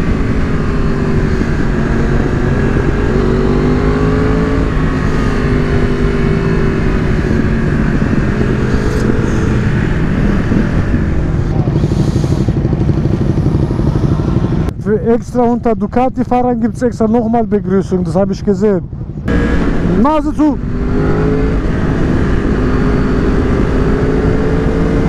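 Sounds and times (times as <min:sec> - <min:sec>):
wind rush: 0:00.0 - 0:15.8, 0:18.8 - 0:25.0
motorcycle engine running: 0:00.0 - 0:25.0.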